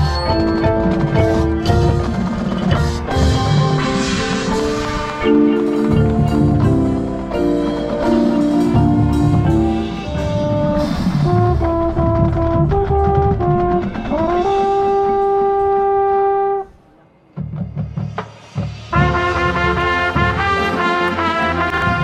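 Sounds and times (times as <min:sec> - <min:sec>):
marching band brass and drums: 0:00.0 - 0:22.0.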